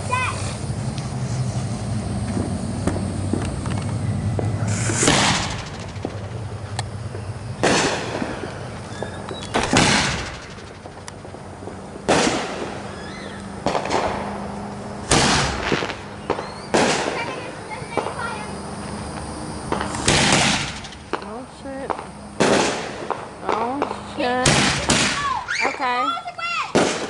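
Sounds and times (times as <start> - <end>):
fireworks bangs: 2.1 - 27.0
firework pops and crackles: 2.2 - 27.0.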